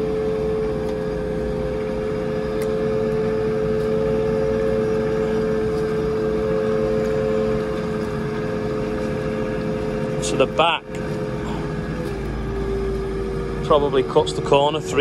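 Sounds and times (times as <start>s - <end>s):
high steady whine: 0.0s - 15.0s
telehandler engine running: 0.0s - 15.0s.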